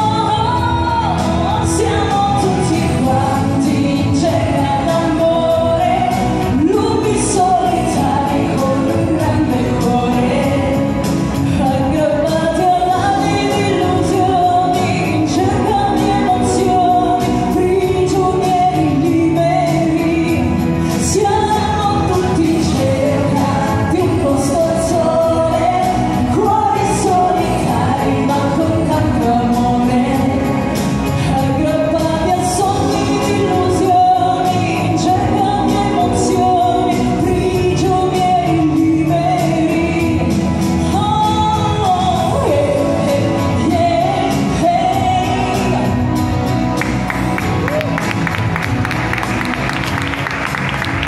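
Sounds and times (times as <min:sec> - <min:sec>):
woman singing into a microphone: 0:00.0 - 0:48.0
amplified instrumental backing: 0:00.0 - 0:51.0.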